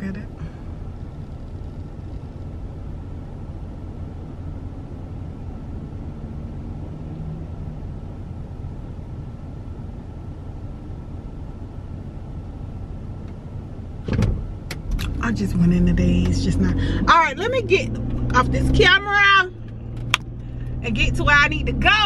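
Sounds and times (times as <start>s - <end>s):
car engine idling: 0.0s - 22.0s
faint steady whine: 0.0s - 22.0s.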